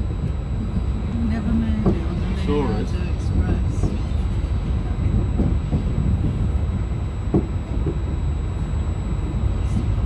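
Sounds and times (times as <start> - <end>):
train carriage rumbling on tracks: 0.0 - 10.0.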